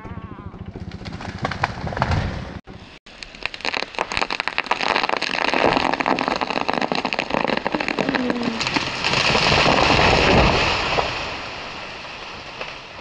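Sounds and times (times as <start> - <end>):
falling tree creak: 0.0 - 13.0
tree trunk crackling and splintering: 0.8 - 2.4, 3.1 - 13.0.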